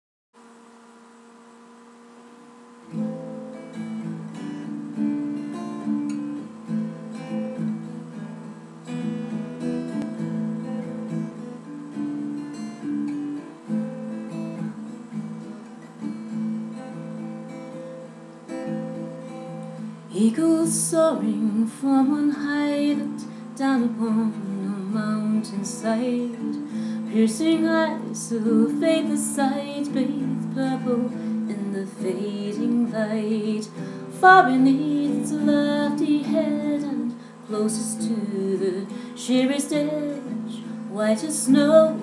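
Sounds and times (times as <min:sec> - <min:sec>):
faint steady hum: 0:00.4 - 0:42.0
acoustic guitar: 0:02.2 - 0:42.0.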